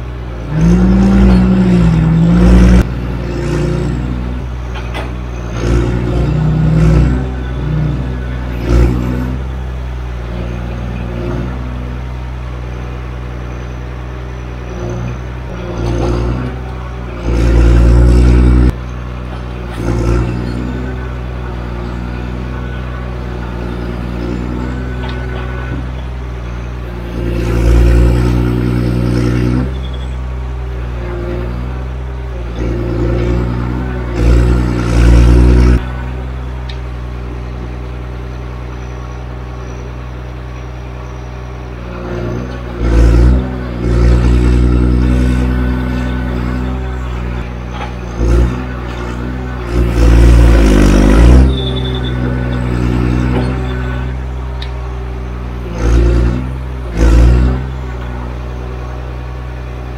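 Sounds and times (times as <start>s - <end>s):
heavy diesel engine revving: 0.0s - 59.9s.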